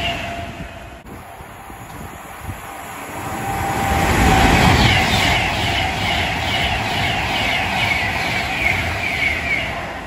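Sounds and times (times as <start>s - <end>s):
electric train passing at speed: 0.0s - 10.0s.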